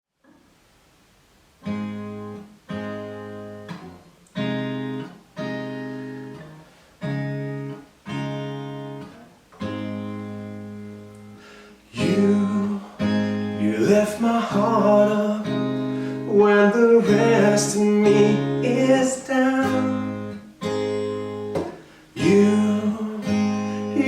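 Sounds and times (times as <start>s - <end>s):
acoustic guitar chords strummed: 1.6s - 24.0s.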